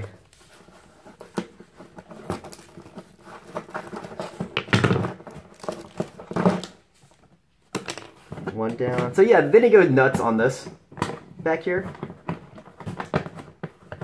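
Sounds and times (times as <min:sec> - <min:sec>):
box and tape handling rustles: 0:00.0 - 0:14.0.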